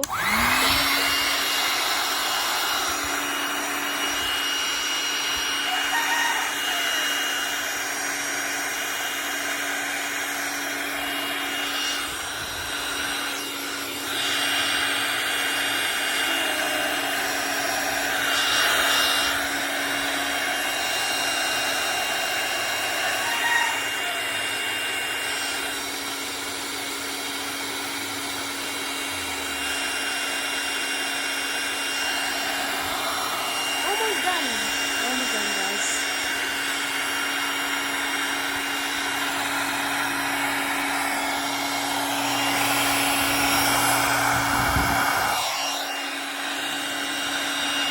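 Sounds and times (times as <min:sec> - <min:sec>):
electric air pump whirring: 0:00.0 - 0:47.9.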